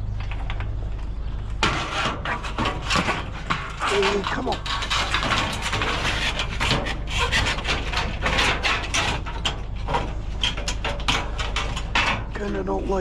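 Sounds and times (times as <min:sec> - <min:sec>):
scrap metal scraping and clattering: 0:01.2 - 0:13.0.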